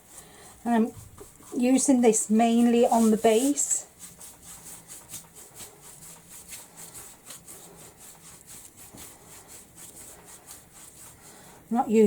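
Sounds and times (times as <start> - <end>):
paintbrush scrubbing on wood: 0.0 - 12.0.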